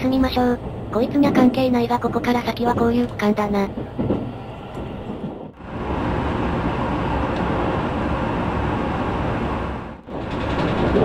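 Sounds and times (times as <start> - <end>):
train running noise inside car: 0.0 - 11.0.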